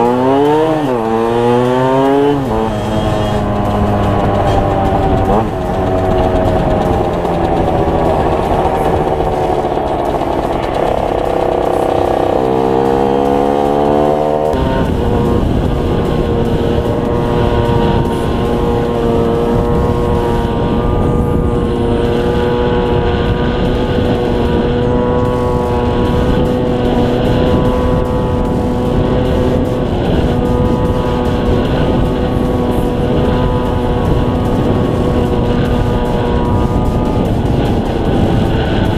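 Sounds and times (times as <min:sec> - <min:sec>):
two-stroke motorcycle engine: 0:00.0 - 0:38.9.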